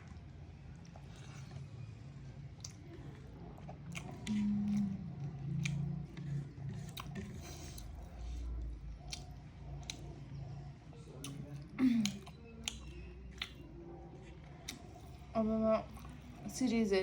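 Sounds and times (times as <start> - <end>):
close chewing of food: 0.0 - 16.6.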